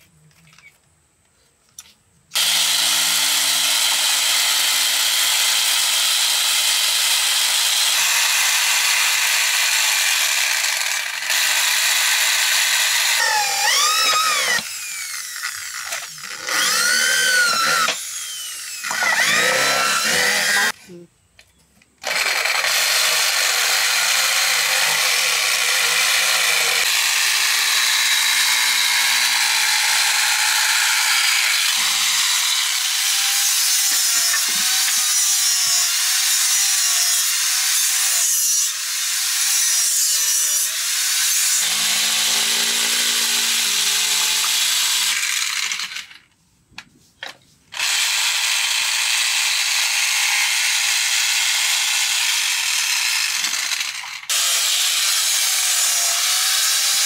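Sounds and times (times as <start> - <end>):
jigsaw cutting wood: 2.3 - 20.8, 22.0 - 46.2, 47.7 - 57.0
angle grinder grinding: 2.4 - 21.0, 22.0 - 46.2, 47.7 - 57.0.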